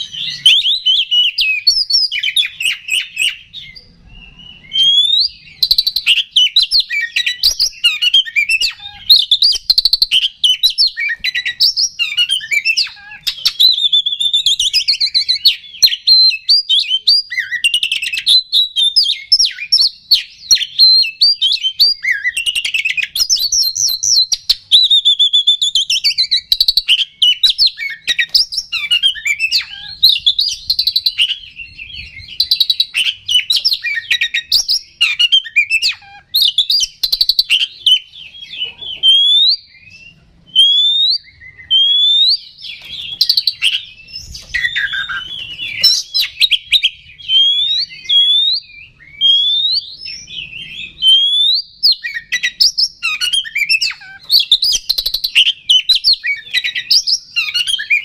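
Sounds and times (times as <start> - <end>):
bird song warbles and whistles: 0.0 - 58.0
rising bird whistles: 0.0 - 58.0.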